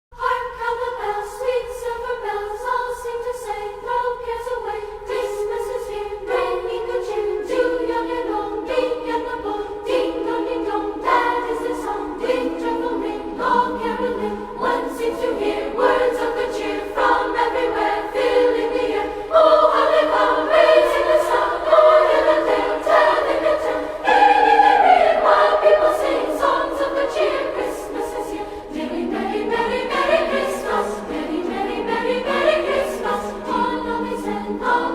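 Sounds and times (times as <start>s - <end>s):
choir singing: 0.1s - 34.9s.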